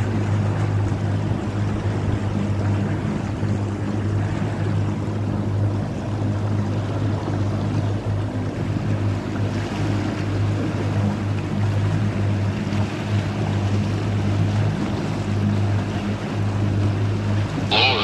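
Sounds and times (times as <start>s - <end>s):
choppy water: 0.0s - 18.0s
motorboat engine humming: 0.0s - 18.0s.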